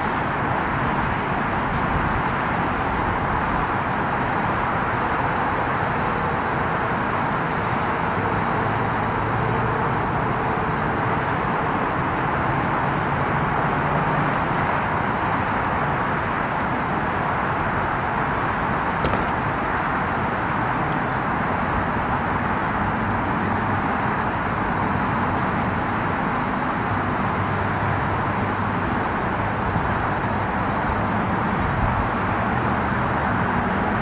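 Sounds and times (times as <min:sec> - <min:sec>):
outdoor rushing noise: 0:00.0 - 0:34.0.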